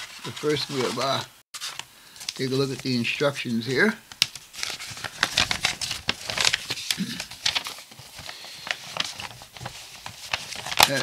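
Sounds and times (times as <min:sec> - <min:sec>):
paper rustling and crackling: 0:00.0 - 0:11.0.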